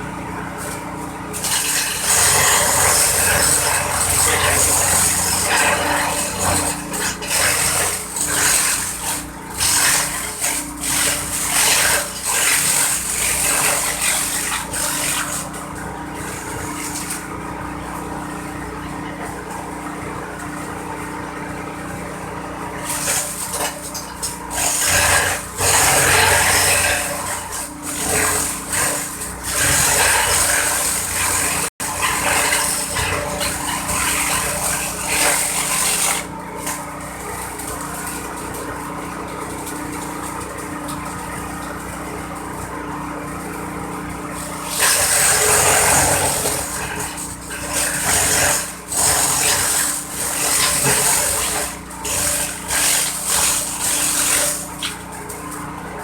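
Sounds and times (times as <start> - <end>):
machine motor humming: 0.0 - 56.0
stalks shredding in blades: 0.2 - 56.0.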